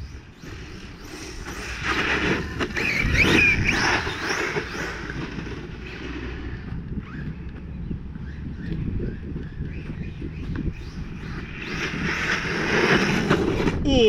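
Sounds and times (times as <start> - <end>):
electric motor whine: 0.0 - 13.8
rushing drive noise: 0.0 - 13.8.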